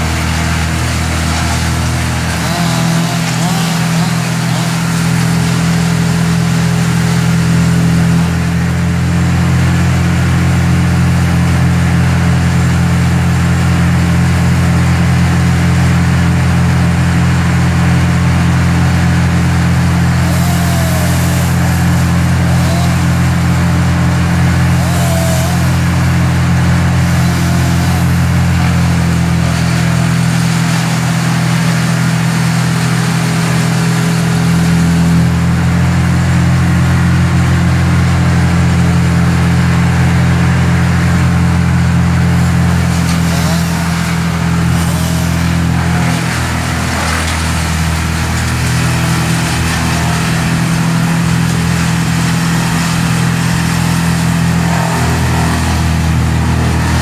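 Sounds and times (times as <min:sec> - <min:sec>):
large engine running steadily: 0:00.0 - 0:57.0.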